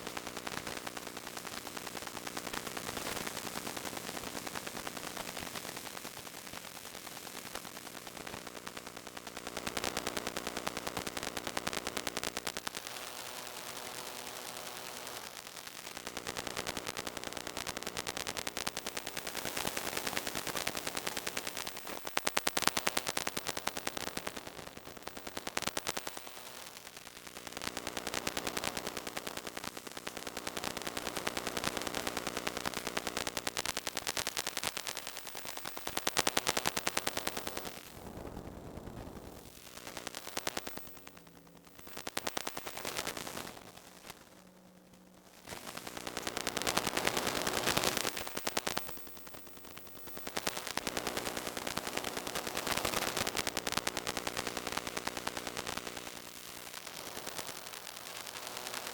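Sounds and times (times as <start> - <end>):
rapid electronic crackle: 9.5 - 58.9.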